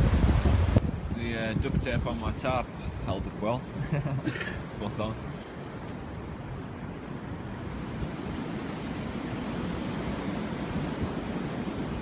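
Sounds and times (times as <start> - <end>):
strong storm wind: 0.0 - 12.0.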